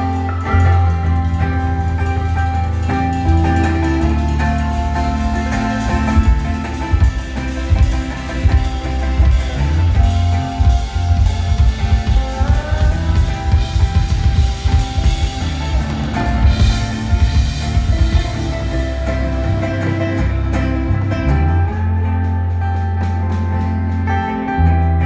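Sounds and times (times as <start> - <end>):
drum kit beat: 0.0 - 25.0
rock band playing: 0.0 - 25.0.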